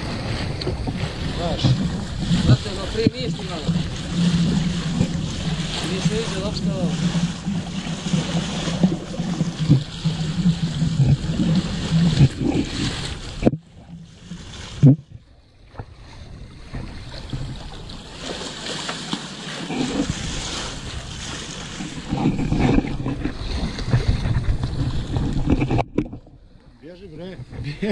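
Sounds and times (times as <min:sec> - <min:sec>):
wind buffeting microphone: 0:00.0 - 0:18.2, 0:19.7 - 0:26.5
water rushing past boat hull: 0:00.0 - 0:27.9.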